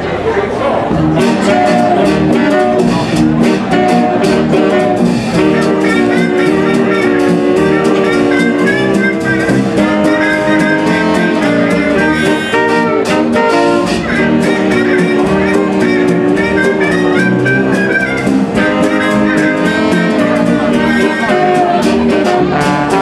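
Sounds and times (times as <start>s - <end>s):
jazz dance band playing: 0.9s - 23.0s
trumpet lead line: 0.9s - 23.0s.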